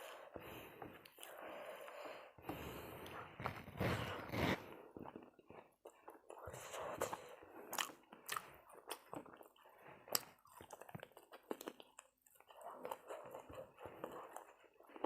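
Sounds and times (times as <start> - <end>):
person chewing crunchy food: 0.1 - 15.0.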